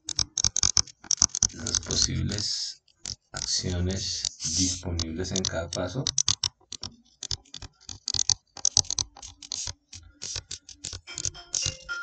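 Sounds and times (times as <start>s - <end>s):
stylus tapping and scratching on screen: 0.0s - 12.0s.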